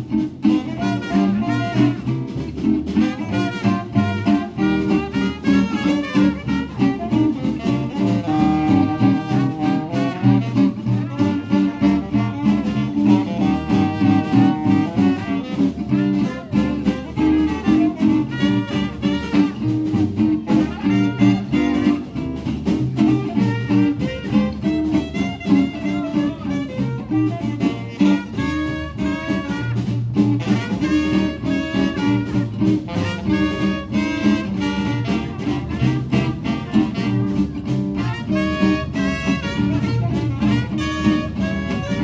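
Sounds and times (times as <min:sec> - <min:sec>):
swing jazz band playing: 0:00.0 - 0:42.0.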